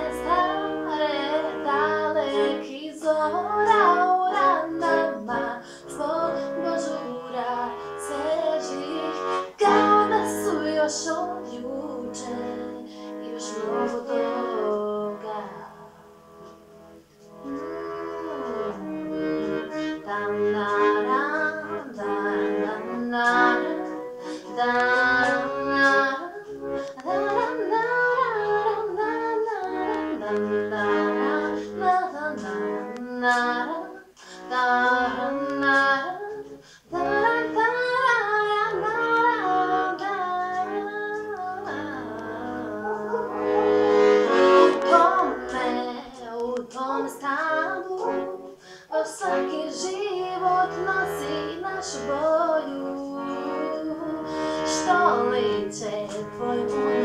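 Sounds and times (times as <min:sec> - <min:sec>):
accordion playing melody: 0:00.0 - 0:57.0.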